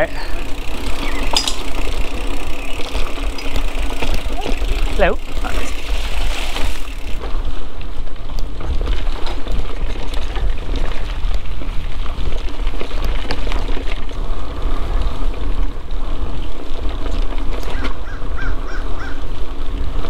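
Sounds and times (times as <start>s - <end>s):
bike clicks and rattles: 0.0s - 20.0s
bike tyres on dirt: 0.0s - 20.0s.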